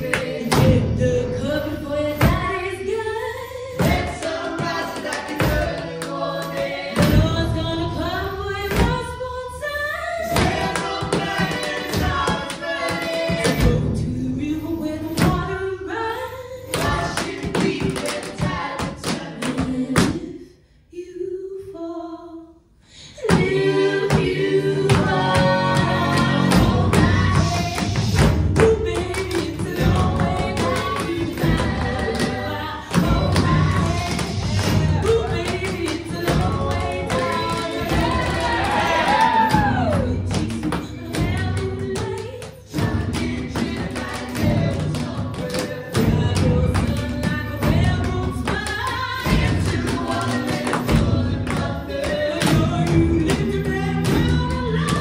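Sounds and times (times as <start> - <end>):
song with singing: 0.0 - 20.4, 21.0 - 55.0.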